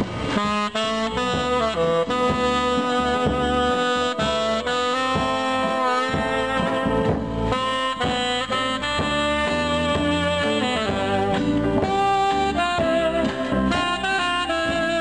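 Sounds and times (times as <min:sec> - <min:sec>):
tenor saxophone melody: 0:00.0 - 0:15.0.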